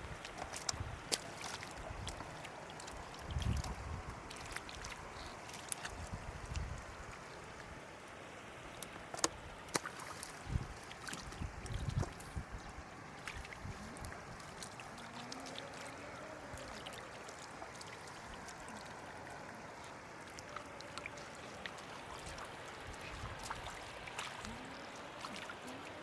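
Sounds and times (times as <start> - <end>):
small water splashes: 0.0 - 26.0
water running and trickling: 0.0 - 26.0.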